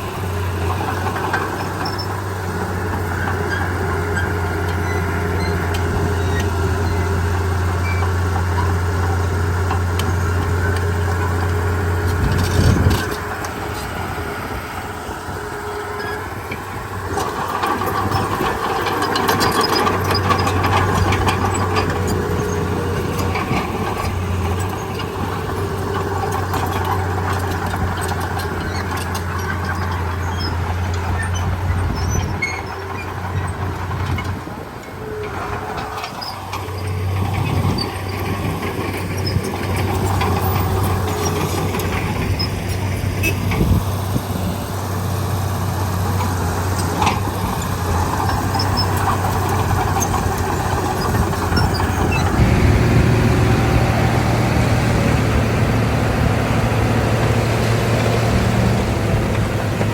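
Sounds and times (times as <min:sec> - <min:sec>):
diesel machinery engine hum: 0:00.0 - 0:59.9.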